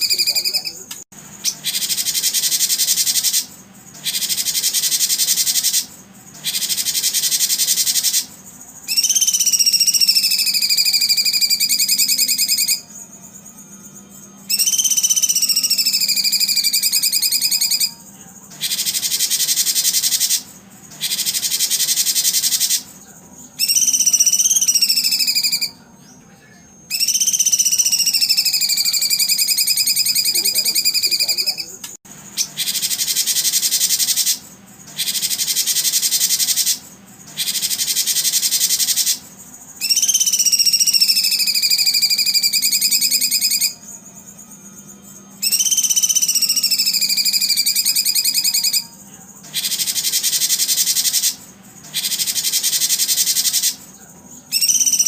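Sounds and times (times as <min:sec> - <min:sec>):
long whistled bird calls: 0:00.0 - 0:12.9, 0:14.4 - 0:18.0, 0:18.6 - 0:22.9, 0:23.6 - 0:25.8, 0:26.9 - 0:44.5, 0:45.4 - 0:48.9, 0:49.5 - 0:53.9, 0:54.5 - 0:55.0
high buzzing bird trills: 0:00.0 - 0:55.0.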